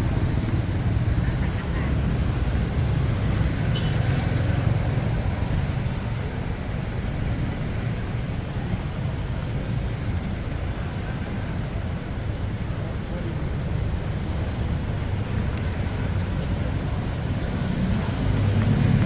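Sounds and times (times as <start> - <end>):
passing road vehicles rumble: 0.0 - 19.0.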